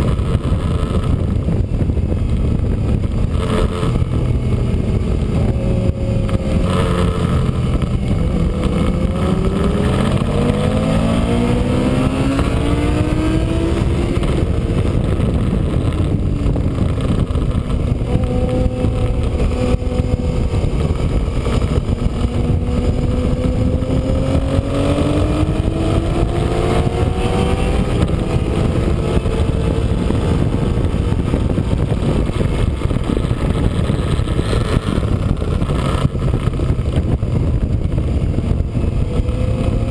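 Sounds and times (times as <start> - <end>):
motorcycle engine at speed: 0.0 - 39.9
wind rush on microphone: 0.0 - 39.9.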